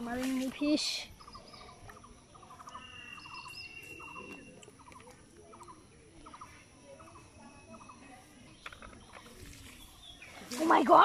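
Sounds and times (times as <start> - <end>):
small animals chirping: 1.1 - 10.2.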